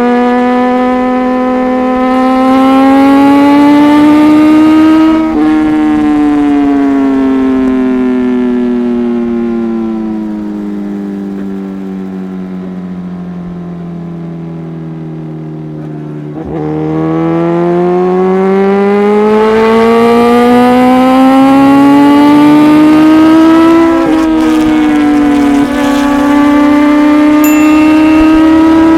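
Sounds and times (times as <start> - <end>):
loud motorcycle engine: 0.0 - 28.9.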